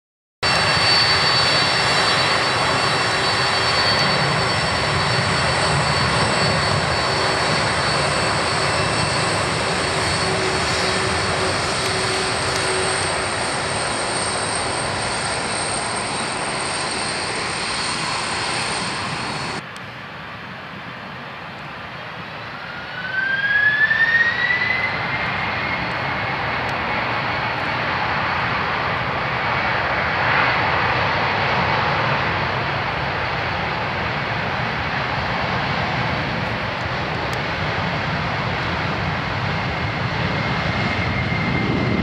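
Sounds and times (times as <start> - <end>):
jet engines rushing and whining: 0.4 - 42.0.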